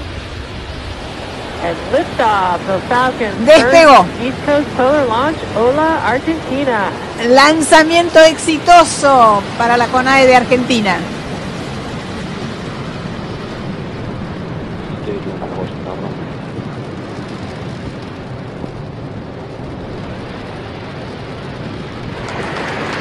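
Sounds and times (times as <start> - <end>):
rocket engines rushing: 0.0 - 23.0.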